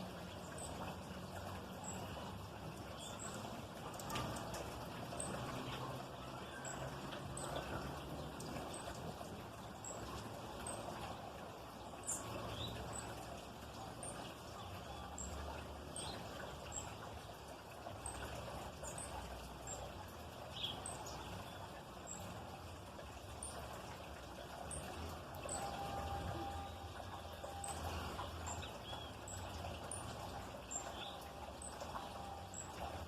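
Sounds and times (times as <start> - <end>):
small birds chirping: 0.0 - 22.6, 24.6 - 33.0.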